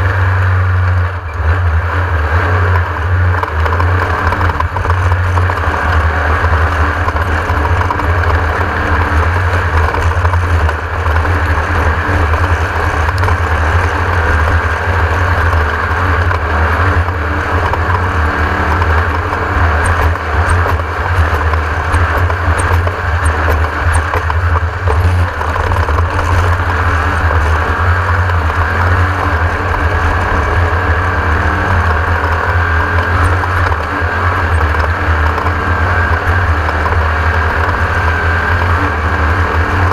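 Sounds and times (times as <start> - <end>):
buggy engine roaring: 0.0 - 39.9
rough road noise: 0.0 - 39.9.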